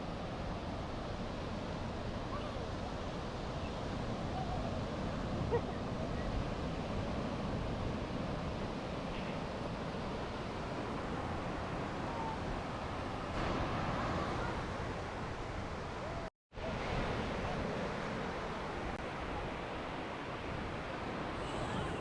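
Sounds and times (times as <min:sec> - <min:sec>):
waves: 0:00.0 - 0:22.0
wind: 0:00.0 - 0:22.0.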